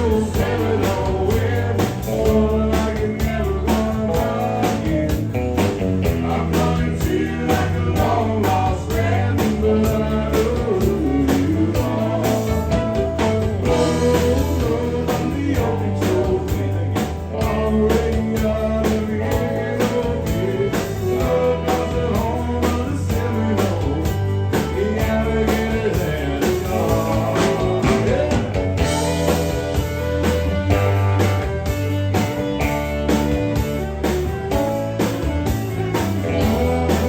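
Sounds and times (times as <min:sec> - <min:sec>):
country band music: 0:00.0 - 0:37.0.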